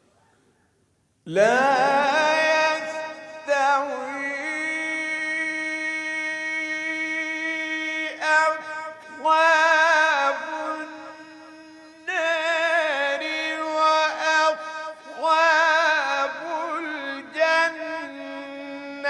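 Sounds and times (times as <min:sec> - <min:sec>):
man reciting melodically: 0:01.2 - 0:19.0.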